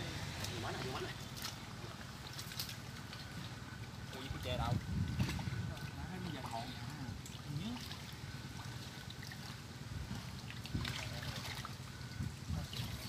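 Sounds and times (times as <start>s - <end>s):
shallow water sloshing: 0.4s - 13.0s.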